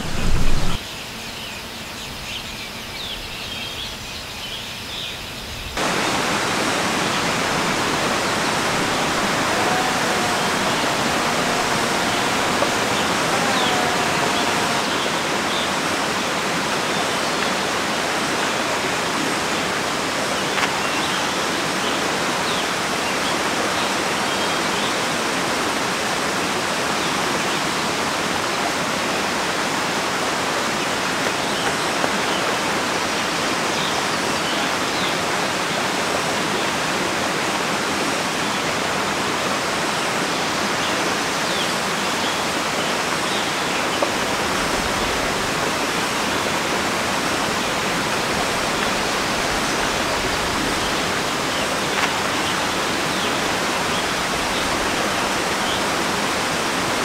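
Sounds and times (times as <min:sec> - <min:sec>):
stream rushing over rocks: 0:00.0 - 0:00.8, 0:05.8 - 0:57.0.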